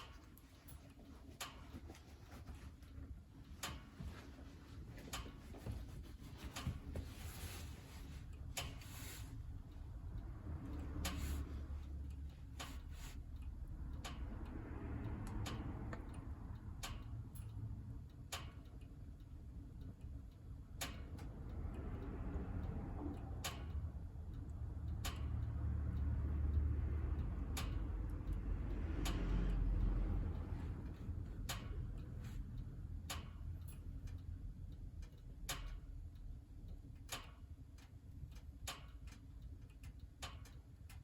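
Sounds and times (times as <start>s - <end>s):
low rumble of stove: 0.0s - 41.0s.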